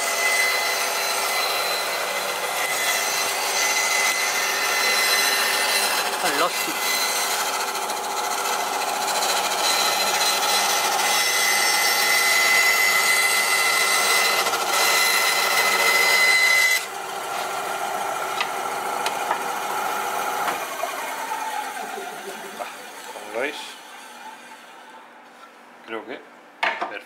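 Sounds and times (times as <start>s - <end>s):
band saw cutting board: 0.0s - 25.0s.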